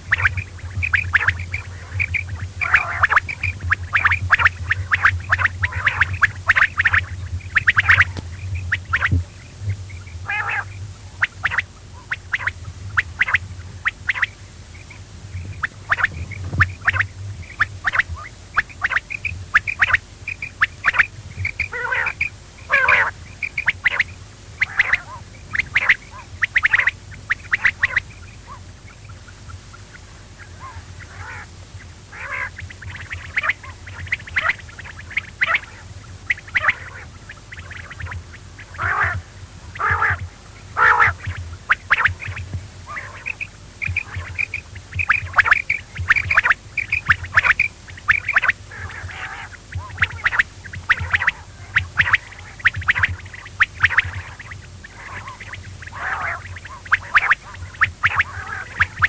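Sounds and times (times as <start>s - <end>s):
low hum: 0.0s - 59.0s
quail calling: 0.0s - 59.0s.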